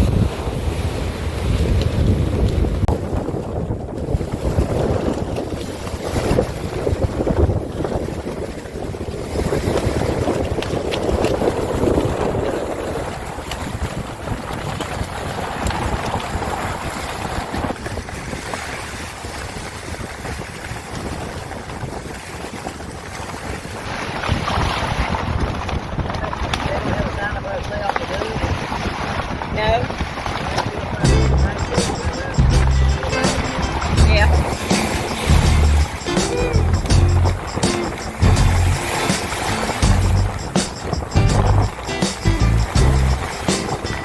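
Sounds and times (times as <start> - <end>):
water washing around boat: 0.0 - 44.0
wind gusting on microphone: 0.0 - 44.0.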